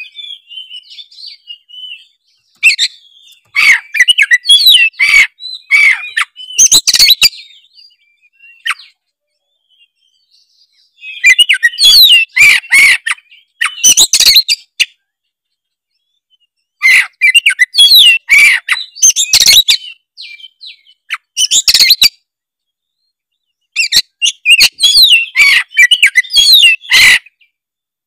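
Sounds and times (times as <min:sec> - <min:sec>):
songbird singing rapid phrases: 0:00.0 - 0:28.0.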